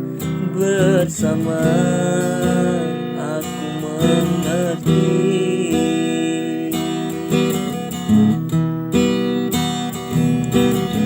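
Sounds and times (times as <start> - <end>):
instrumental pop ballad chords: 0.0 - 11.0.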